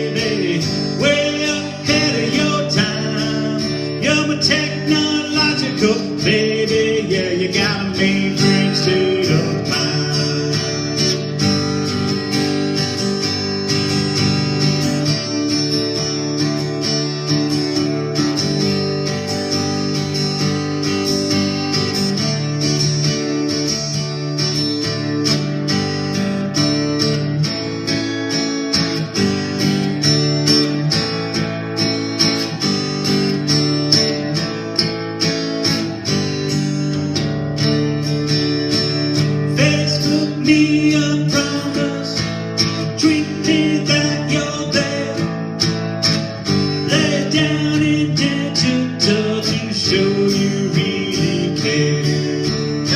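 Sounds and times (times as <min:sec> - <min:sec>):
acoustic guitar strumming chords: 0:00.0 - 0:52.9.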